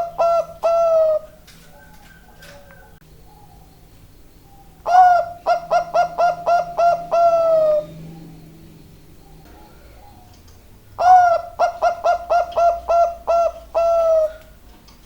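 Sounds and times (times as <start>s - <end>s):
dove cooing: 0.0s - 14.8s.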